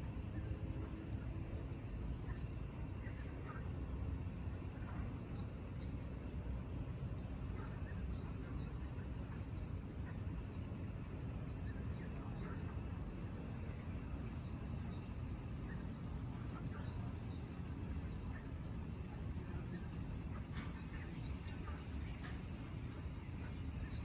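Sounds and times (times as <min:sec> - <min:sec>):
steady low rumble: 0:00.0 - 0:24.0
small birds chirping: 0:00.1 - 0:24.0.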